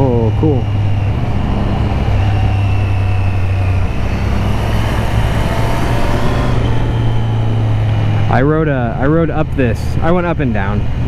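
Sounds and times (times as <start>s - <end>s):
motorcycle engine cruising: 0.0s - 11.0s
wind rush: 0.0s - 11.0s.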